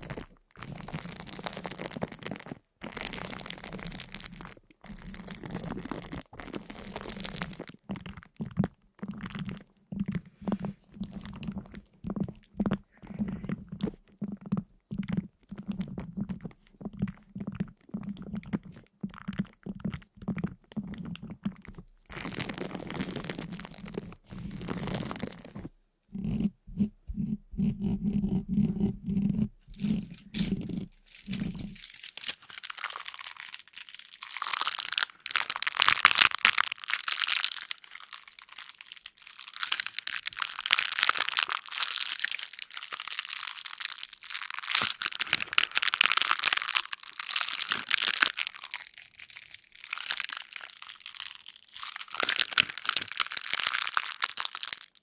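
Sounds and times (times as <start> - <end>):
crisp crunching and crackling: 0.0 - 26.5, 27.9 - 55.0.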